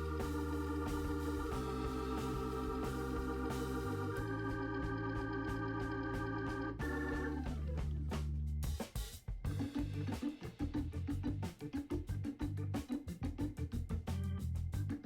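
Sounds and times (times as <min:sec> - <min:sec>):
light steady beat: 0:00.0 - 0:15.0
organ-like keyboard chords: 0:00.0 - 0:15.0.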